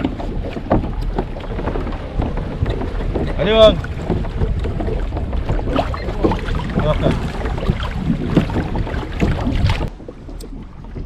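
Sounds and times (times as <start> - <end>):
water lapping against a kayak hull: 0.0 - 11.0
wind rumble on microphone: 0.0 - 11.0.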